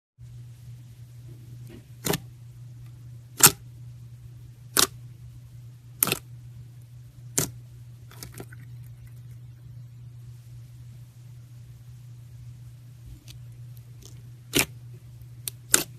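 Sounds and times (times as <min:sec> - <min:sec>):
steady low hum: 0:00.2 - 0:15.9.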